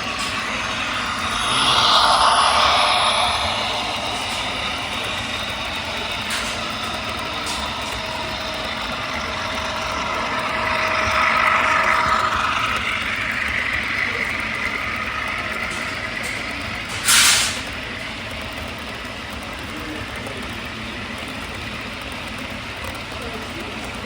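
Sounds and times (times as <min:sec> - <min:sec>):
model locomotive engine from speaker: 0:00.0 - 0:24.0.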